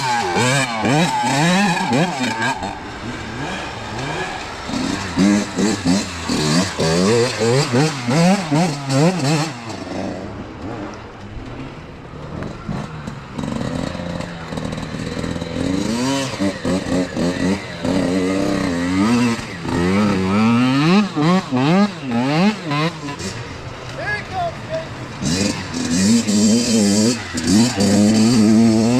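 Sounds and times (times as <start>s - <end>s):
dirt bike engines revving: 0.0s - 28.9s.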